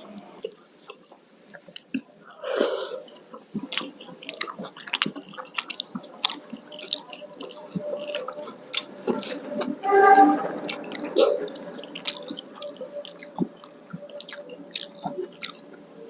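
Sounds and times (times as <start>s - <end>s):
chewing food: 0.0s - 16.0s
mouth clicks and smacks: 0.4s - 9.8s, 10.6s - 15.8s.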